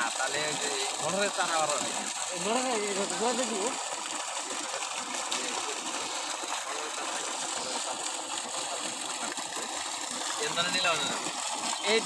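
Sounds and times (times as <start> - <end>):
water gushing from pipe: 0.0 - 12.0.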